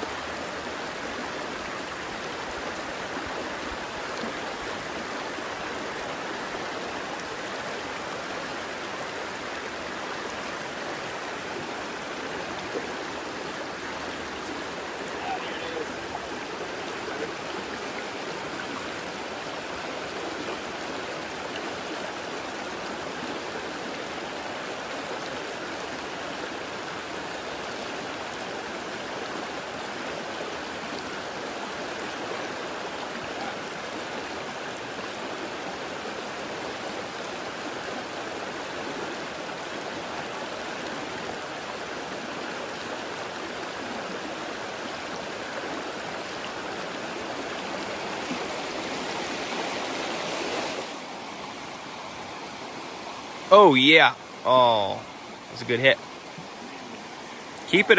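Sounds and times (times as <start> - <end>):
creek water rushing and babbling: 0.0 - 57.9.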